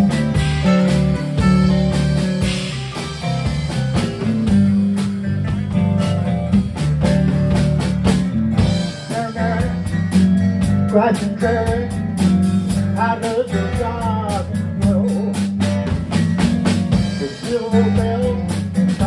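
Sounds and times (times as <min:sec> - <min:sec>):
drum kit beat: 0:00.0 - 0:19.0
electric guitars: 0:00.0 - 0:19.0.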